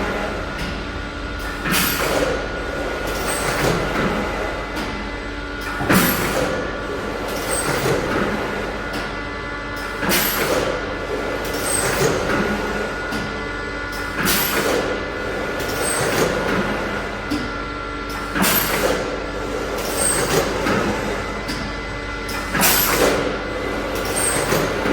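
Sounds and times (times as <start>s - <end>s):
printing machine mechanical hum: 0.0s - 24.9s.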